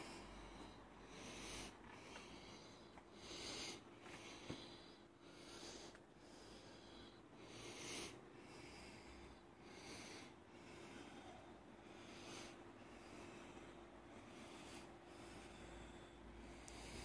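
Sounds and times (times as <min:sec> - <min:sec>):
soft breathing: 0:00.0 - 0:17.0
steady low hum: 0:00.0 - 0:17.0.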